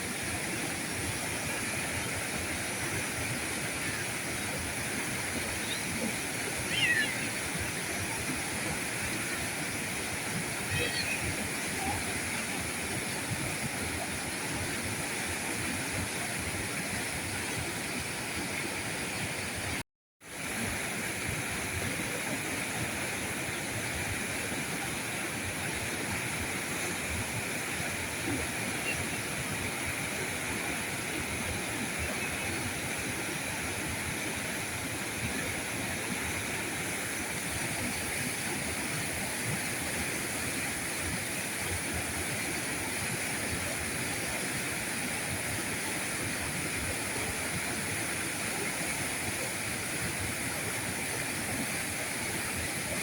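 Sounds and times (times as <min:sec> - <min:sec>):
river rushing over rocks: 0:00.0 - 0:53.0.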